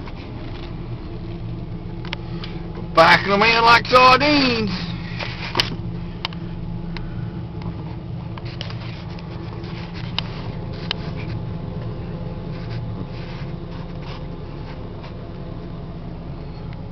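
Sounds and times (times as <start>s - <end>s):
engine hum inside cab: 0.0s - 16.9s.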